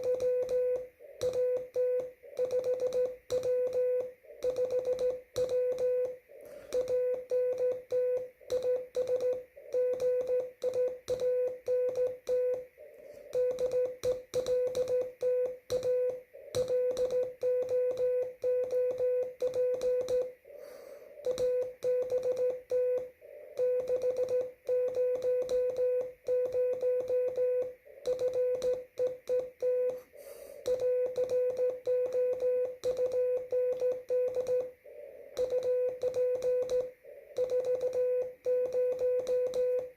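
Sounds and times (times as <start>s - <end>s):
morse code tone: 0.0s - 20.4s, 21.2s - 39.9s
faint steady hiss: 0.0s - 39.9s.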